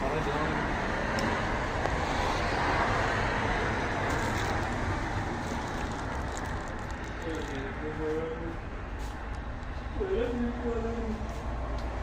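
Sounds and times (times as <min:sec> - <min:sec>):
motor vehicle rumble and hiss: 0:00.0 - 0:12.0.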